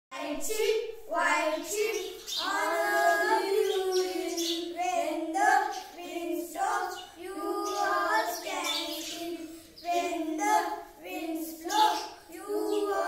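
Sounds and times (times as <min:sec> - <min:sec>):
children singing: 0:00.1 - 0:13.0.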